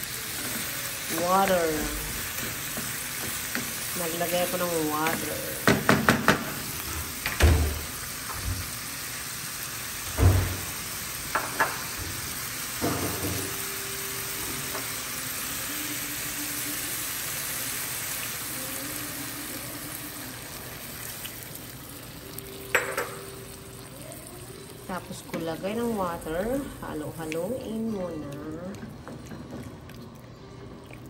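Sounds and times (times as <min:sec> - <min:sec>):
food sizzling in a frying pan: 0:00.0 - 0:29.6.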